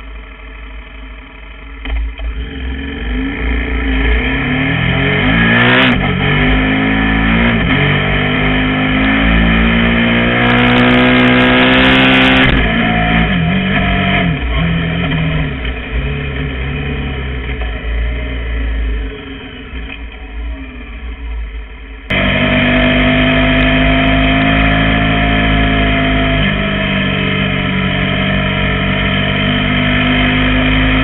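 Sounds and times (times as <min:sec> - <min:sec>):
motorcycle engine revving: 0:01.8 - 0:21.4, 0:22.1 - 0:31.0.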